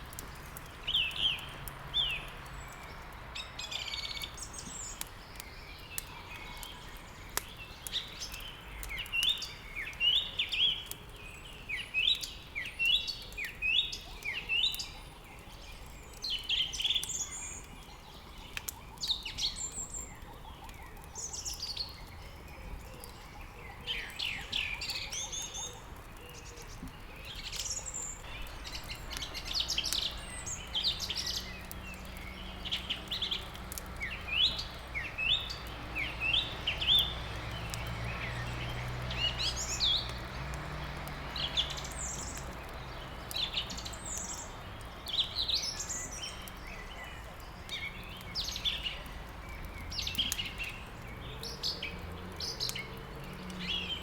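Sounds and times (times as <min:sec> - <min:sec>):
songbirds chirping and trilling: 0:00.0 - 0:54.0
wood fire crackling: 0:00.0 - 0:54.0.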